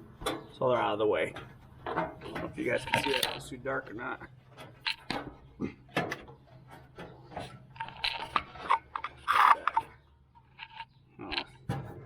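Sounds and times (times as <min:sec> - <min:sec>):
grill parts clicking and rattling: 0:00.1 - 0:12.0
scraping clatter: 0:01.3 - 0:03.6, 0:04.4 - 0:12.0.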